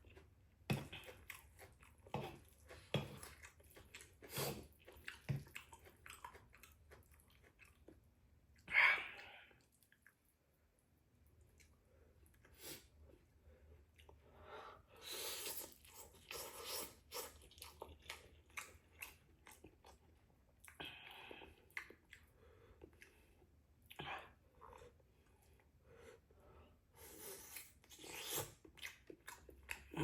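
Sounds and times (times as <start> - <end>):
person chewing noodles: 0.0 - 10.3, 11.3 - 30.0.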